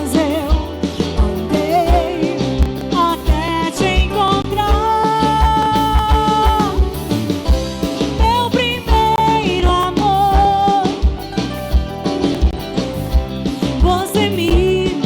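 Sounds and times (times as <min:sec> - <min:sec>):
live band instrumental: 0:00.0 - 0:15.0.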